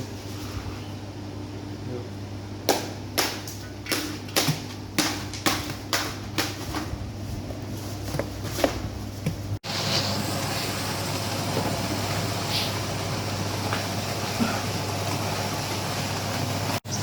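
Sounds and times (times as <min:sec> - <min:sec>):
ice cream machine motor hum: 0:00.0 - 0:17.0.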